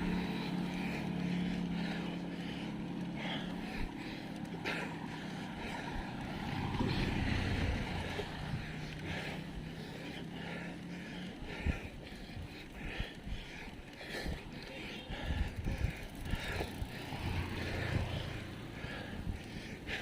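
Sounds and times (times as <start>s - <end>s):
low rumble of vehicle passing: 0.0s - 20.0s
vehicle engine humming: 0.0s - 20.0s.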